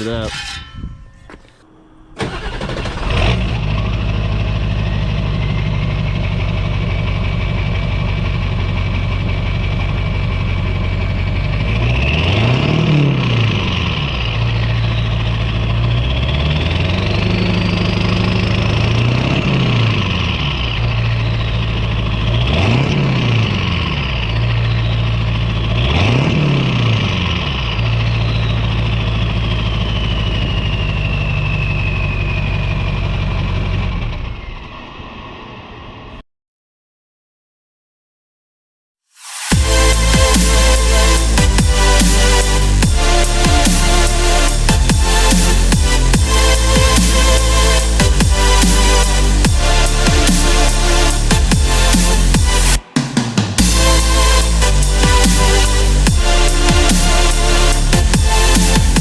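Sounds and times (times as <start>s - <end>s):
diesel engine idling and revving: 2.0s - 36.2s, 39.5s - 59.0s.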